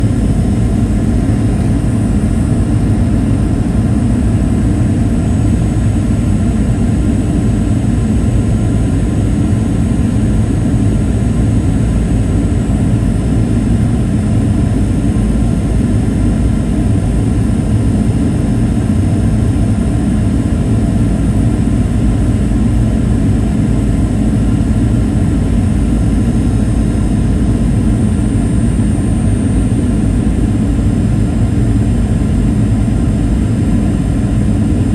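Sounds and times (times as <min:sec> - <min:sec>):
airplane cabin engine rush: 0:00.0 - 0:34.9.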